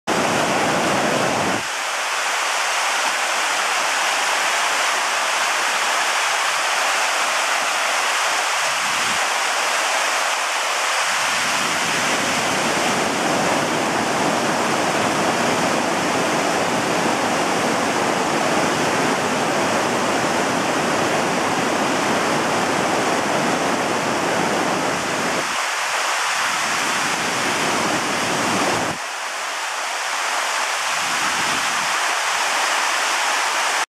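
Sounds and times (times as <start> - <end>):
water rushing over rocks: 0.1 - 33.9.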